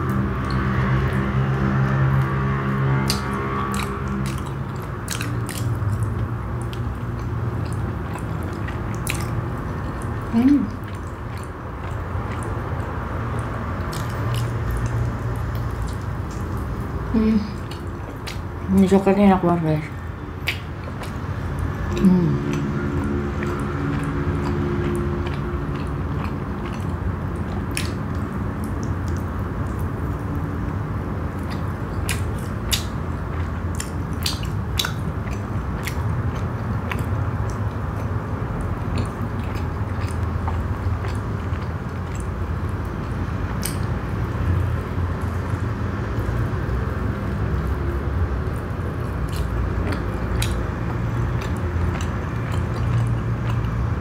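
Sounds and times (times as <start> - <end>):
person chewing soft bread: 0.0 - 19.1, 19.8 - 54.0
wet mouth clicks and smacks: 3.0 - 16.9, 20.4 - 22.7, 23.3 - 30.3, 31.4 - 46.4, 48.5 - 53.9.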